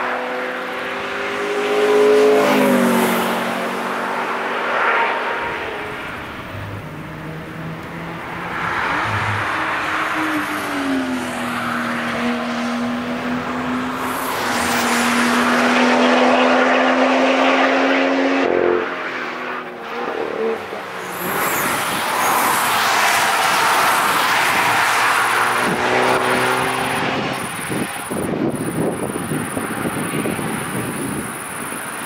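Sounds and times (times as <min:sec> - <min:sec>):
car engine pulling hard: 0:00.0 - 0:32.0
second car engine approaching: 0:00.0 - 0:32.0.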